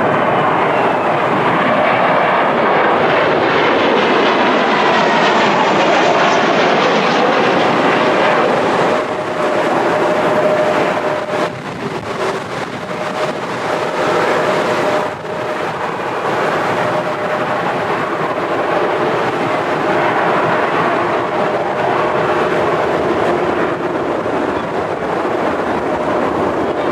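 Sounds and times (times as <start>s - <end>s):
jet engine whine: 0.0s - 26.9s
jet engines roaring: 0.0s - 26.9s.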